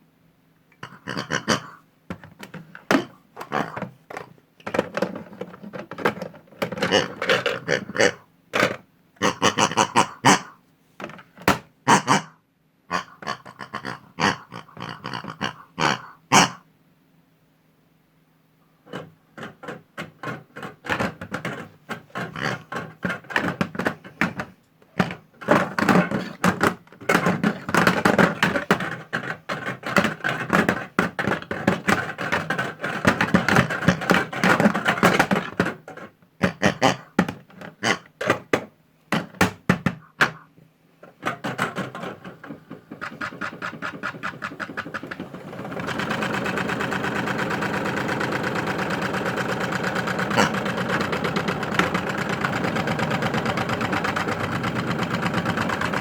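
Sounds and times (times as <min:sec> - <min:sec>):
toy washing machine motor clattering: 0:00.8 - 0:10.5, 0:18.9 - 0:56.0.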